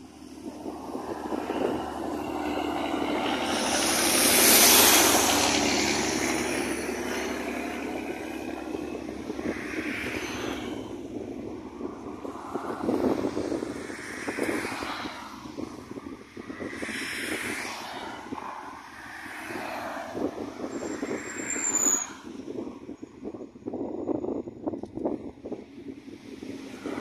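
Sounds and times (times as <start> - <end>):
truck passing: 0.0 - 22.6
highway traffic passing: 0.0 - 27.0.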